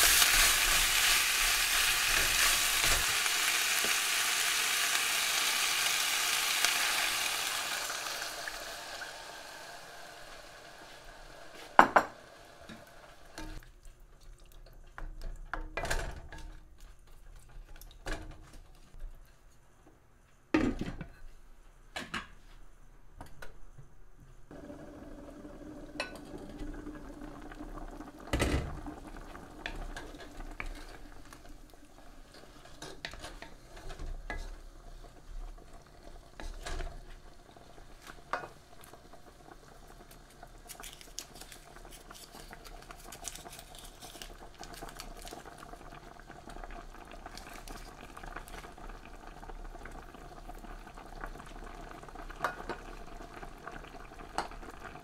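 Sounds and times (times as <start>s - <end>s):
broth bubbling in a pan: 0.0s - 16.3s, 24.5s - 55.0s.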